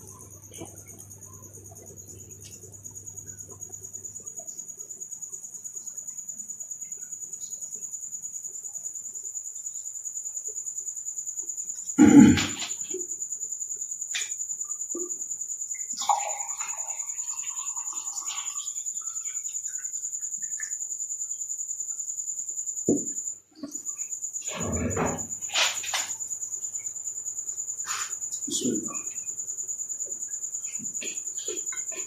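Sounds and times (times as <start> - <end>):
cricket chirping: 0.0 - 32.0.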